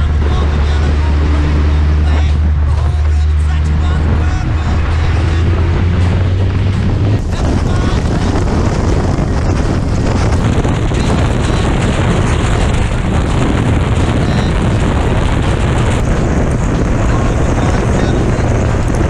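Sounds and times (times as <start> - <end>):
motorcycle riding: 0.0 - 19.0
wind on microphone: 0.0 - 19.0.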